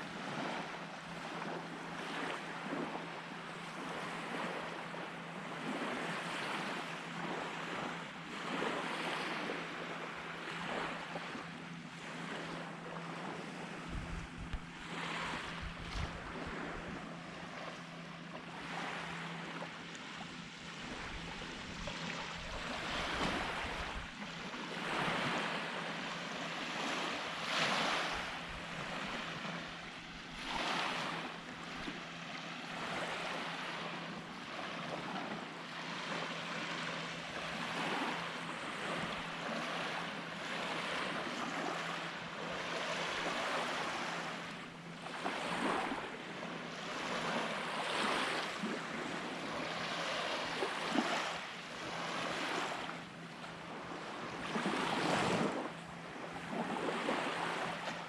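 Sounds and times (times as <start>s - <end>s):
small waves breaking on sand: 0.0s - 58.0s.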